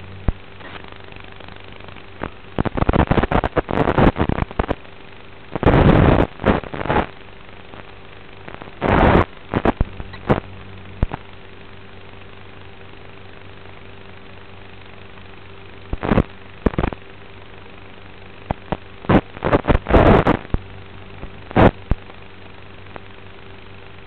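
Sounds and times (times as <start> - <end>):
crackling static bursts: 0.0 - 24.0
steady electrical hum: 0.0 - 24.0.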